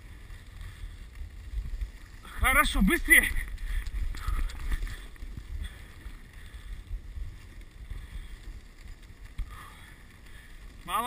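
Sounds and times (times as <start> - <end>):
sled runners rushing over snow: 0.0 - 11.0
wind buffeting microphone: 0.0 - 11.0.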